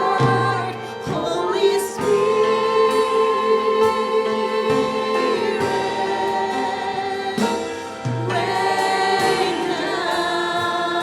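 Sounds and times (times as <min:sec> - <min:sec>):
worship singing with instruments: 0:00.0 - 0:11.0.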